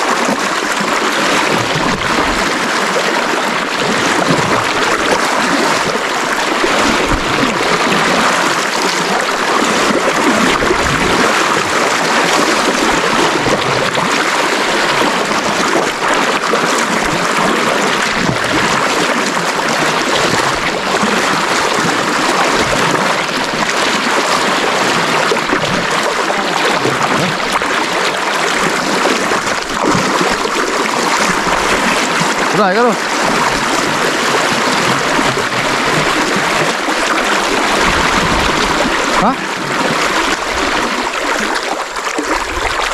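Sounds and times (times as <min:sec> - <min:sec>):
river current rushing and splashing: 0:00.0 - 0:42.9.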